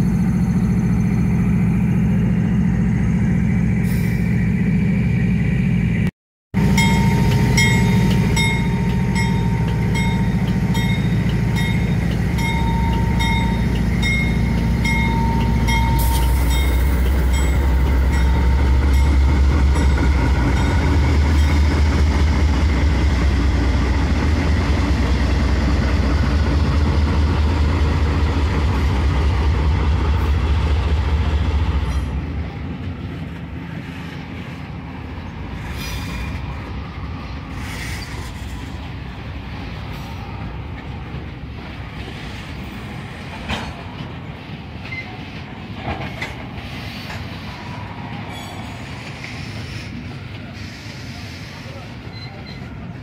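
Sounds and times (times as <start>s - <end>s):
locomotive diesel engines droning: 0.0s - 53.0s.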